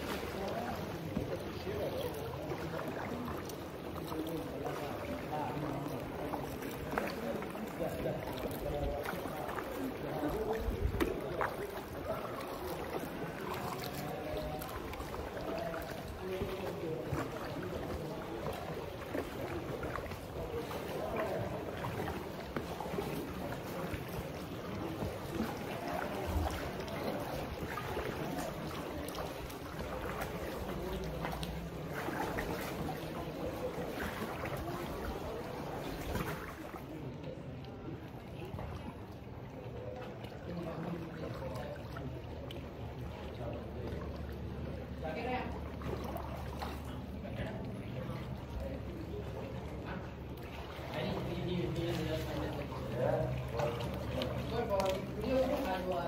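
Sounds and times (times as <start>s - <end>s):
distant voices: 0.0s - 56.0s
water sloshing and splashing: 0.0s - 56.0s.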